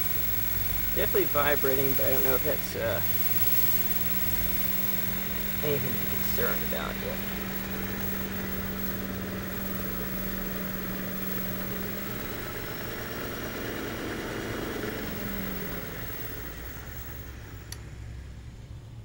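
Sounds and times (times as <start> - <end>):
electric motor whirring hum: 0.0 - 18.1.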